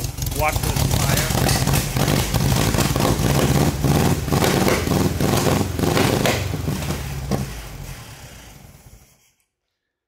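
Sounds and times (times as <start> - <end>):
engine revving in quick blips: 0.7 - 9.0.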